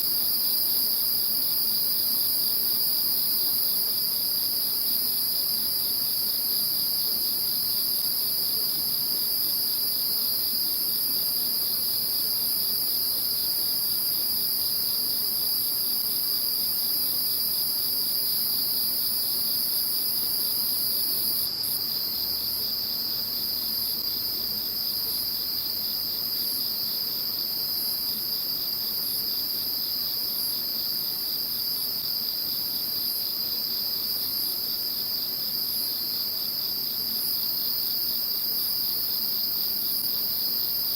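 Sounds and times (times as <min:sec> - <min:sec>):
crickets trilling: 0:00.0 - 0:40.9
insect high continuous ring: 0:00.0 - 0:40.9.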